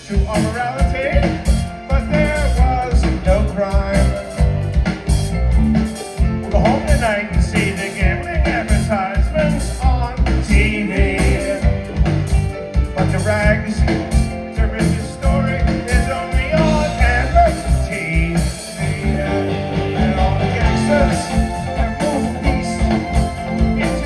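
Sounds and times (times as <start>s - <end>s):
singer singing: 0.0s - 4.9s, 6.4s - 12.1s, 12.8s - 24.0s
live rock band playing: 0.0s - 24.0s.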